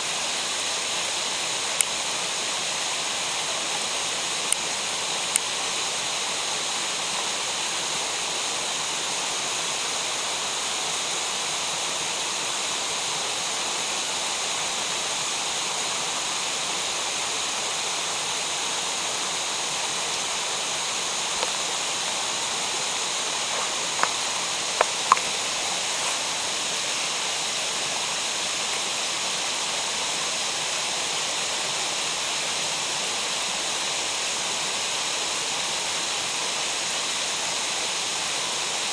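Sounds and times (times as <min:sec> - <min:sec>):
water rushing through gorge: 0:00.0 - 0:38.9.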